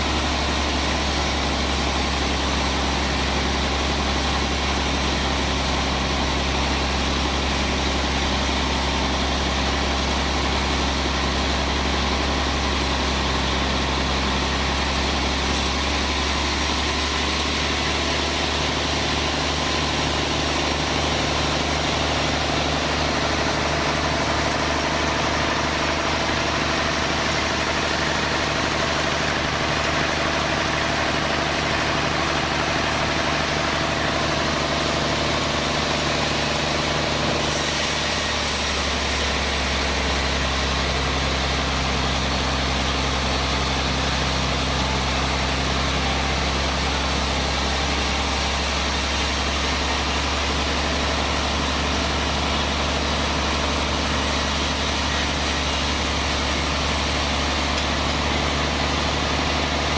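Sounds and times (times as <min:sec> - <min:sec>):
band saw machinery running: 0:00.0 - 0:59.9.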